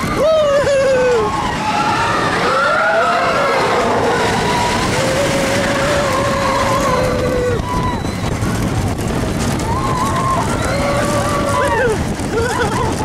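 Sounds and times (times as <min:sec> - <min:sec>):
riders screaming: 0:00.0 - 0:13.0
roller coaster train rumbling: 0:00.0 - 0:13.0.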